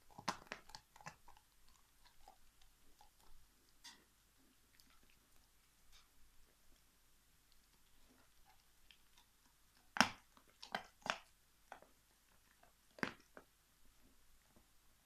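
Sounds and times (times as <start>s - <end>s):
dog crunching a bone: 0.0s - 4.1s, 4.7s - 6.8s, 7.5s - 13.5s.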